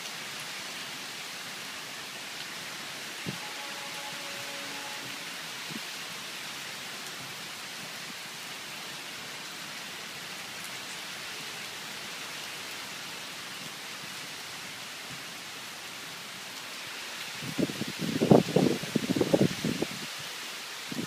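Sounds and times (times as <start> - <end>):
strong wind with rain: 0.0 - 21.0.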